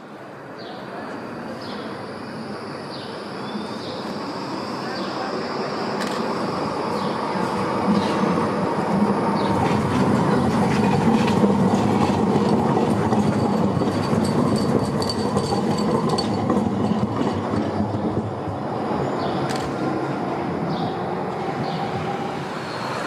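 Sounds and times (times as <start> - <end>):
tram wheels rumbling on rails: 0.1 - 23.0.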